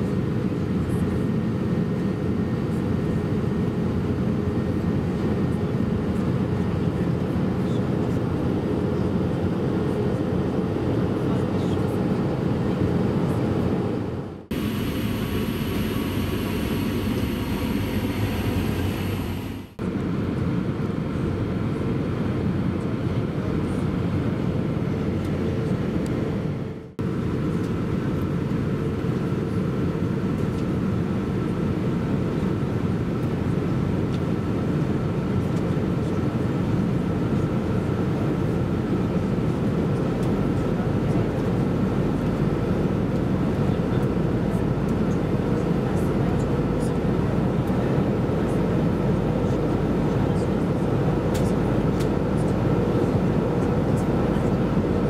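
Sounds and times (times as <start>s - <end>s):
airplane cabin engine rush: 0.0s - 55.0s.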